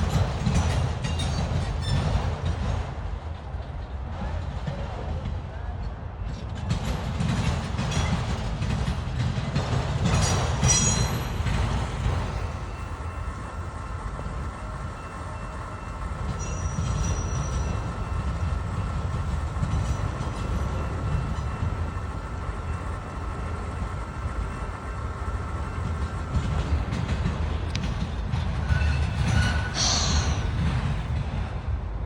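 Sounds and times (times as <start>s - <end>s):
freight train cars rumbling past: 0.0s - 32.0s.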